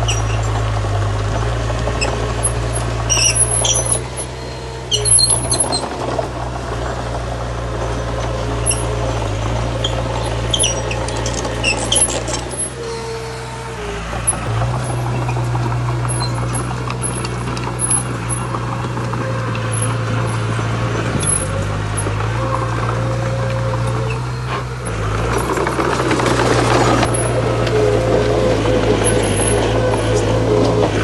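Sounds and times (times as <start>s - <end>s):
high-pitched squeaks: 0.0s - 0.6s, 1.4s - 6.4s, 7.8s - 31.0s
diesel machinery engine running: 0.0s - 31.0s.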